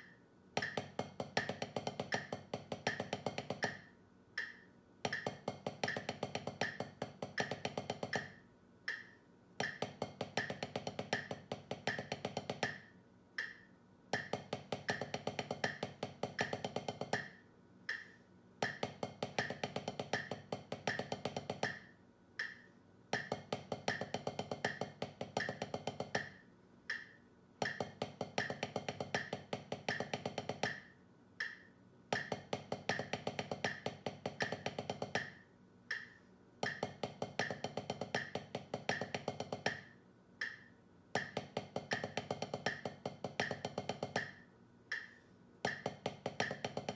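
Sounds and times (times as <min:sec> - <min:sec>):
drumsticks on practice pad: 0:00.0 - 0:46.9.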